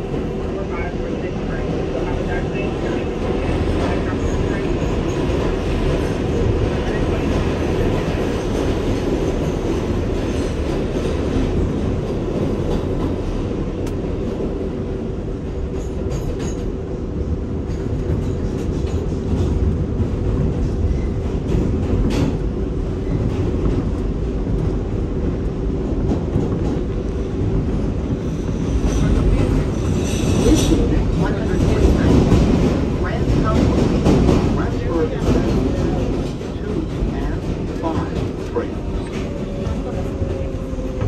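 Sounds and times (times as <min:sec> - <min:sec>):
wheels rumbling on rails: 0:00.0 - 0:41.0.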